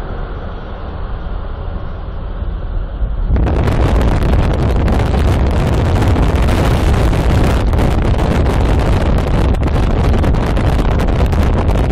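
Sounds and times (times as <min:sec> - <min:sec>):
low road rumble: 0:00.0 - 0:11.9
wind buffeting microphone: 0:01.0 - 0:11.9.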